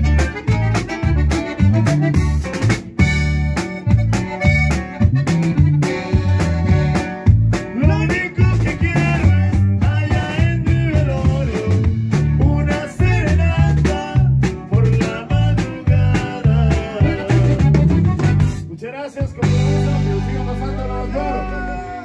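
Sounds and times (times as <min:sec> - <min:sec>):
drum kit: 0:00.0 - 0:21.9
bajo sexto strumming: 0:00.0 - 0:22.0
bass line: 0:00.0 - 0:22.0.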